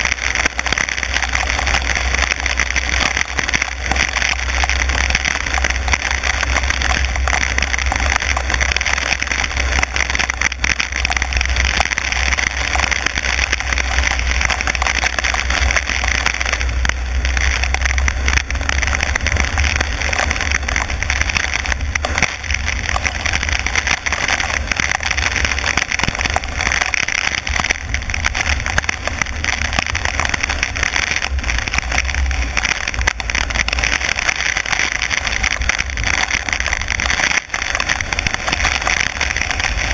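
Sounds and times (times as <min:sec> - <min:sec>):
rain and tyre spray hiss: 0:00.0 - 0:39.9
wind and road noise: 0:00.0 - 0:39.9.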